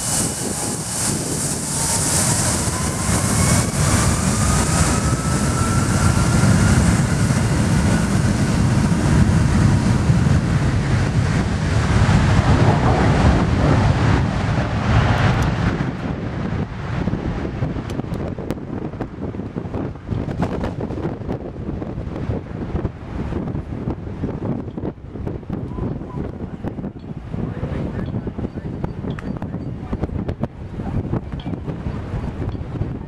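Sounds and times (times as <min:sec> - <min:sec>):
jet engine whine rising: 0:00.0 - 0:26.9
jet engines roaring: 0:00.0 - 0:33.0
wind on microphone: 0:00.0 - 0:33.0.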